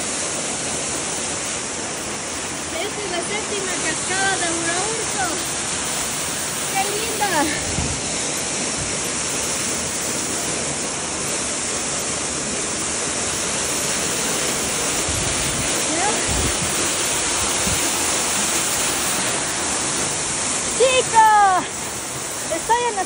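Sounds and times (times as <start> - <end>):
waterfall pouring: 0.0 - 23.0.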